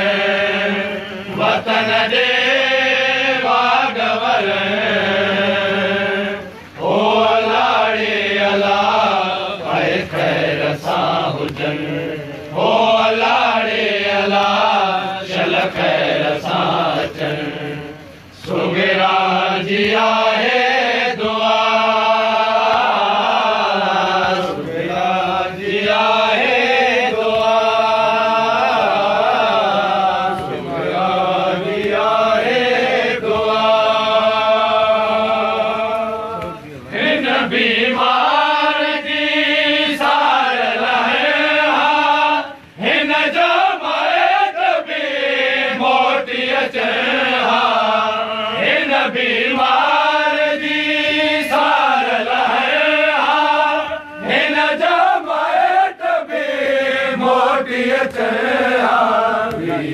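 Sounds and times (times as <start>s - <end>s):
men chanting a lament in unison: 0.0s - 59.9s.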